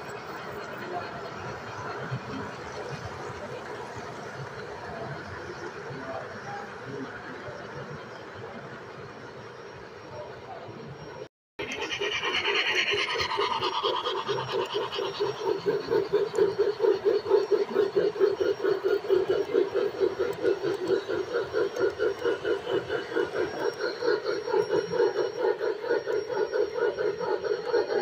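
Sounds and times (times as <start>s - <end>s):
model steam locomotive chuffing: 0.0s - 28.0s.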